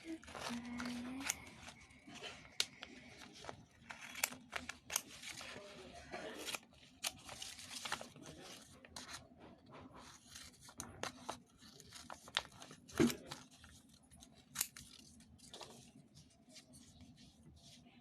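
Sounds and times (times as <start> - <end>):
scissors cutting paper: 0.0 - 9.2, 10.0 - 15.8
paper and tape rustling: 0.0 - 18.0.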